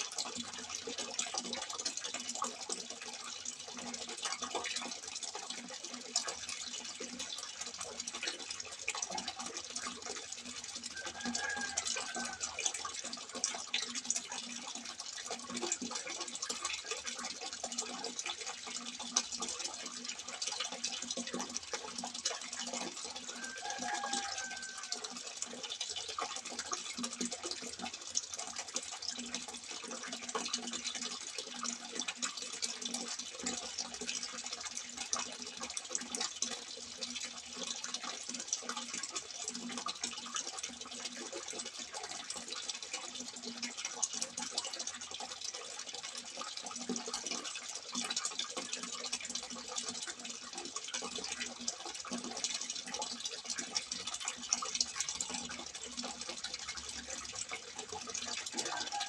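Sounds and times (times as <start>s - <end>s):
water splashing from spout: 0.0s - 59.0s.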